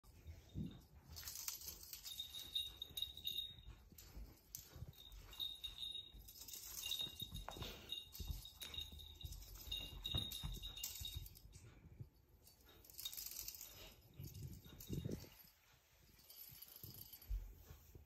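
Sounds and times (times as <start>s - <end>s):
soft thuds of paws on a rug: 0.0s - 18.0s
wand toy jingling: 0.1s - 11.8s, 12.4s - 17.8s.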